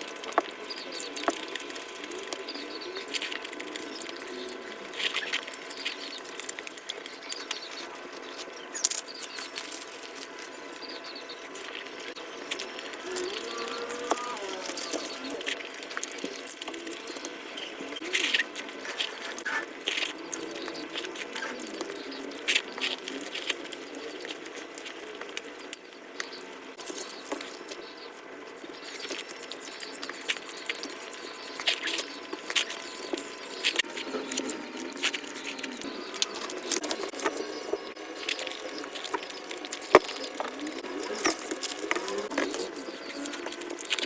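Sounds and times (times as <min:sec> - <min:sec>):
sped-up chewing and smacking: 0:00.0 - 0:44.0.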